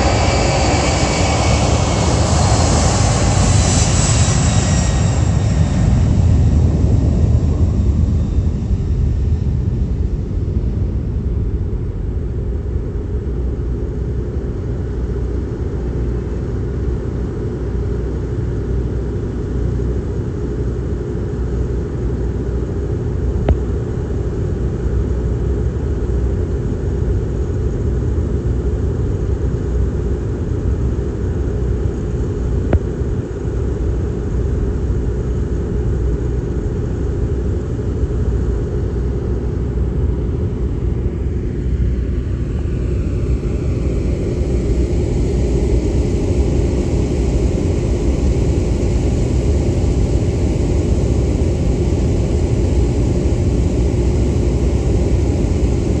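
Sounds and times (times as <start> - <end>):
jet engines rumbling: 0.0 - 29.4, 30.0 - 56.0.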